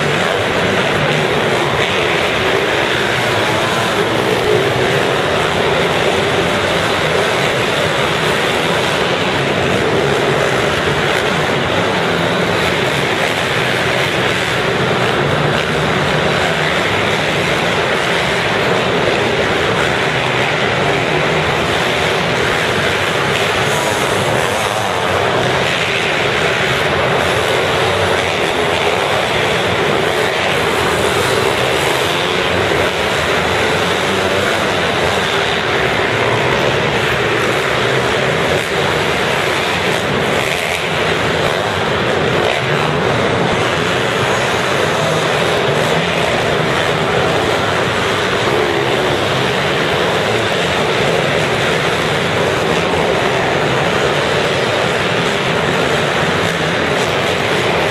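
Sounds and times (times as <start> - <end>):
small motorbike engines revving: 0.0 - 57.9.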